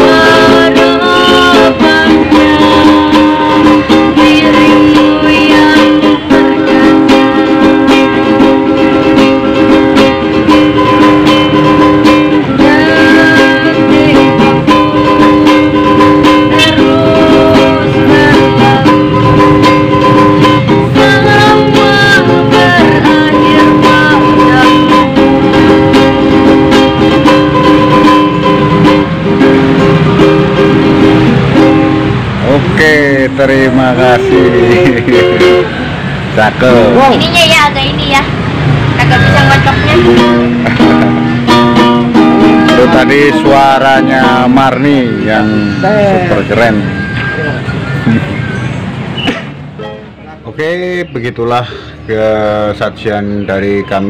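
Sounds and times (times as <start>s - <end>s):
gliding melody line: 0.0s - 37.3s, 38.3s - 48.4s
ukulele strummed chords: 0.0s - 37.3s, 38.3s - 48.5s, 49.2s - 50.5s.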